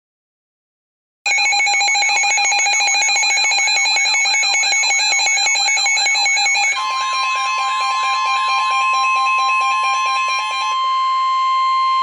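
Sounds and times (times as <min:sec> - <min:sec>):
electronic warble alarm: 0:01.3 - 0:12.0.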